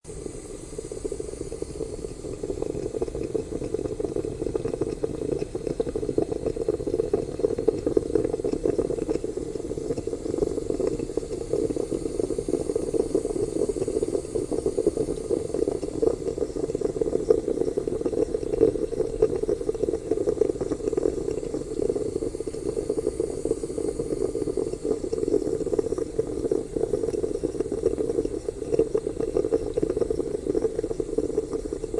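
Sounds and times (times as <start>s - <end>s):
espresso pot bubbling and gurgling: 0.0s - 31.9s.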